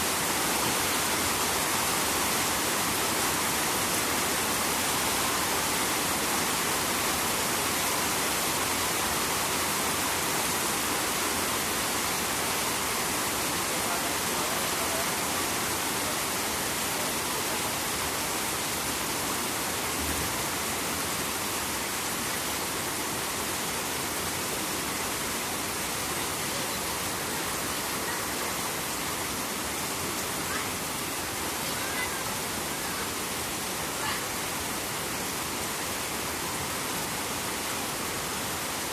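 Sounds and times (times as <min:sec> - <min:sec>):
flowing river water: 0:00.0 - 0:38.9
rain hiss: 0:00.0 - 0:38.9.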